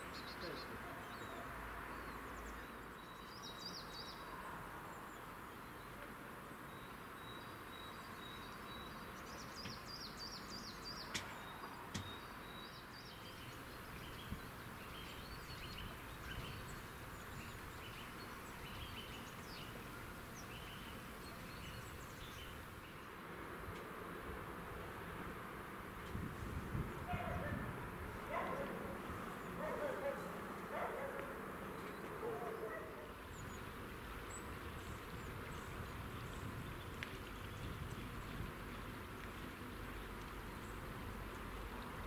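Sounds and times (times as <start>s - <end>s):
small birds chirping: 0.0s - 23.2s, 26.1s - 42.0s
steady background hiss: 0.0s - 42.0s.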